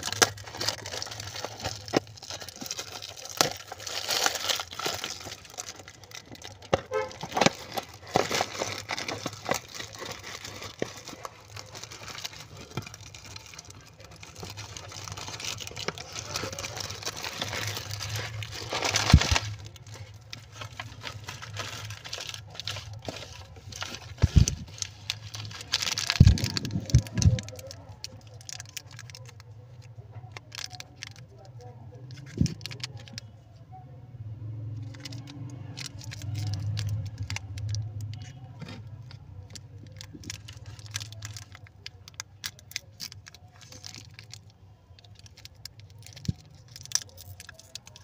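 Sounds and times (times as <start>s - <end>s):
gum wrappers rustling and crinkling: 0.0s - 33.3s, 34.8s - 48.0s.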